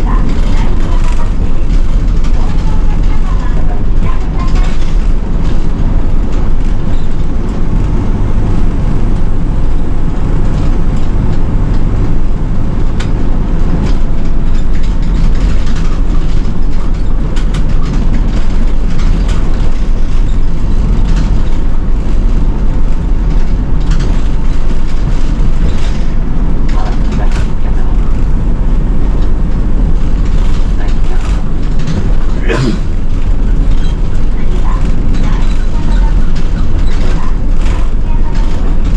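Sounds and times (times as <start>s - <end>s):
bus diesel engine drone: 0.0s - 38.9s
rattles and clicks in cabin: 0.0s - 38.9s.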